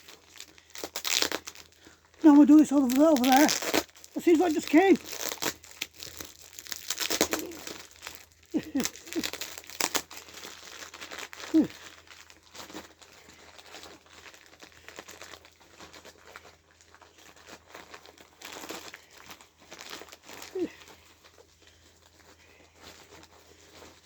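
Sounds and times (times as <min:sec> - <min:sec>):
packaging crinkling and rustling: 0:00.0 - 0:24.0.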